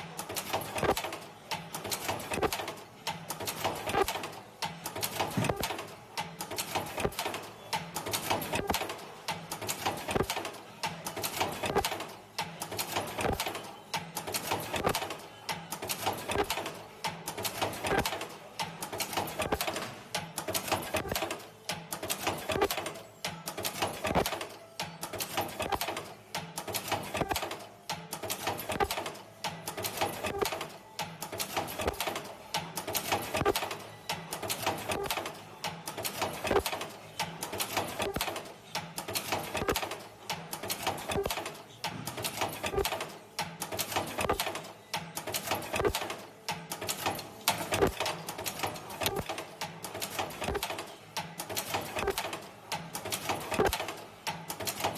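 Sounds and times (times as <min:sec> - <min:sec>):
welding machine clicking and clattering: 0:00.0 - 0:54.9.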